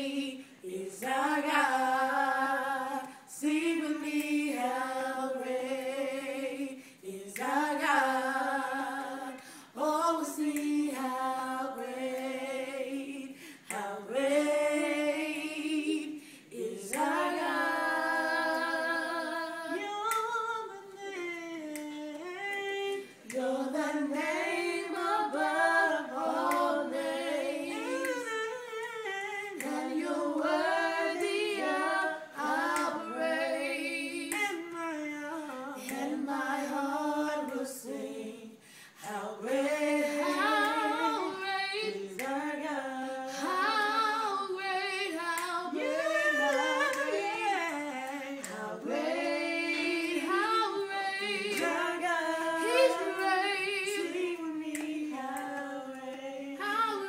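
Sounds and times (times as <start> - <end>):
person singing unaccompanied: 0.0 - 57.0.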